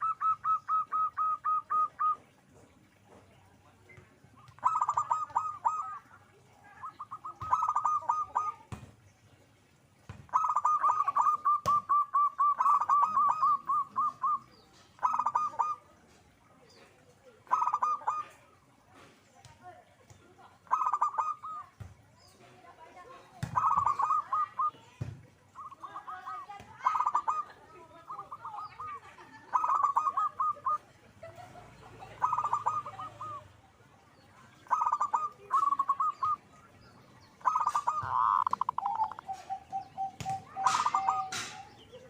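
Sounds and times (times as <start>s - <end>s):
dove cooing: 0.0s - 3.0s, 4.4s - 8.8s, 10.3s - 16.0s, 16.8s - 18.8s, 20.6s - 21.8s, 23.0s - 33.7s, 34.5s - 42.0s.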